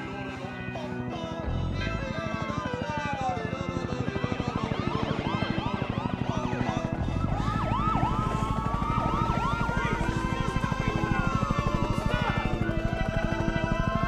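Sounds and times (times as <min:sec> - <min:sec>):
police sirens yelping: 0:00.0 - 0:14.0
low throbbing: 0:01.4 - 0:14.0
siren wail: 0:02.0 - 0:14.0.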